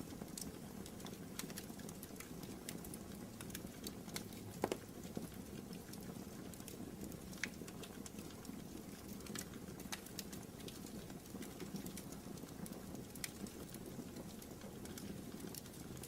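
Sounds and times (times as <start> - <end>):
flames rumbling in fireplace: 0.0 - 16.0
wood fire crackling and popping: 0.0 - 16.0.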